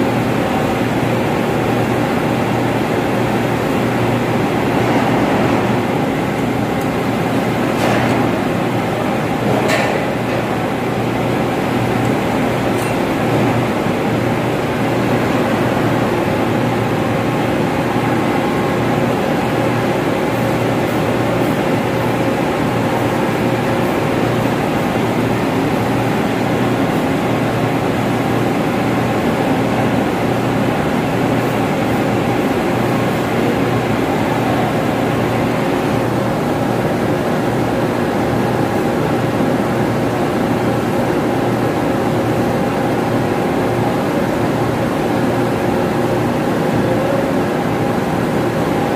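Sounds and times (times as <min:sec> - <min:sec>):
ventilation fans droning: 0:00.0 - 0:48.9.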